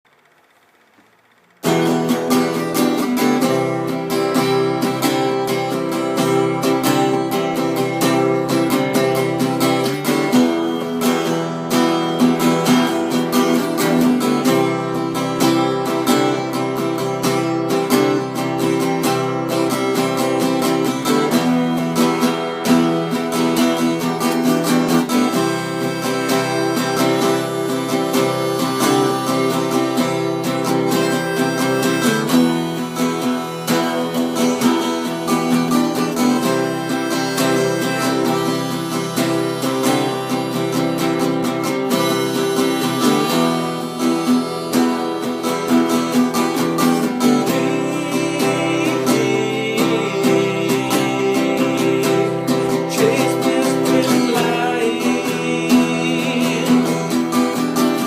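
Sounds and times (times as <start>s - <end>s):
acoustic guitar music: 0.1s - 58.0s.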